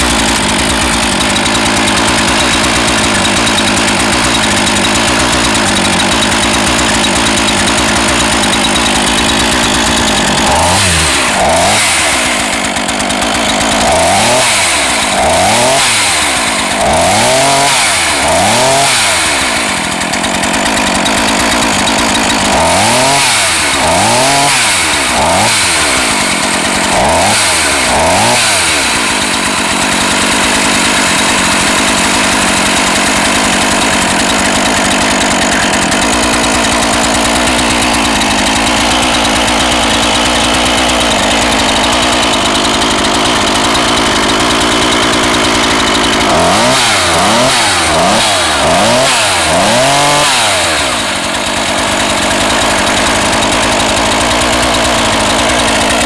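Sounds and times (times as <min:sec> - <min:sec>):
chainsaw engine revving and idling: 0:00.0 - 0:56.0.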